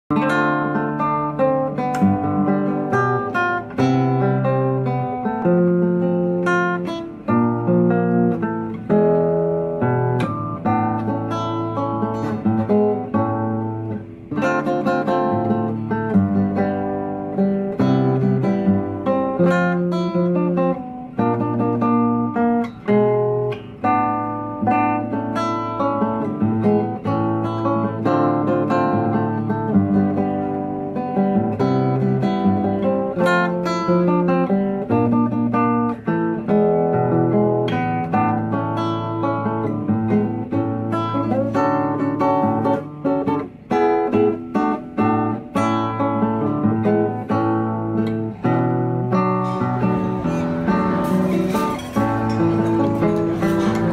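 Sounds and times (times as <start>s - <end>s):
acoustic guitar picking: 0.1s - 53.9s.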